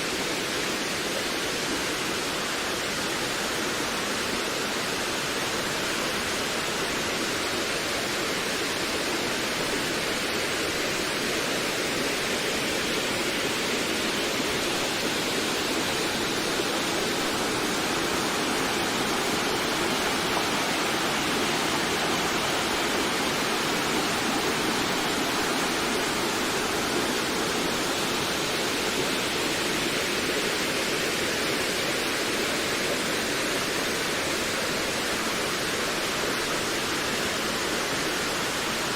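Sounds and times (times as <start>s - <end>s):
wind through trees: 0.0s - 38.9s.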